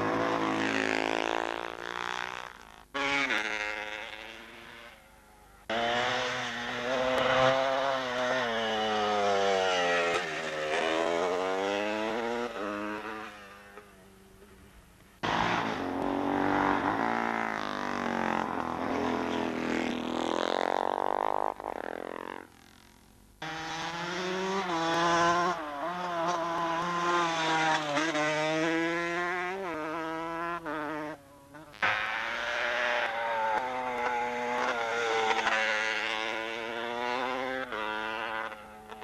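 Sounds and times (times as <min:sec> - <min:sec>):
racing motorcycle accelerating: 0:00.0 - 0:39.0.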